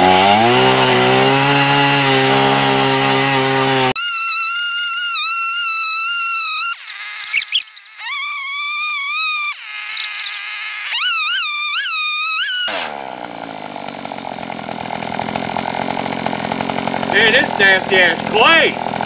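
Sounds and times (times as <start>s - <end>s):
two-stroke auger engine drilling: 0.0s - 19.0s.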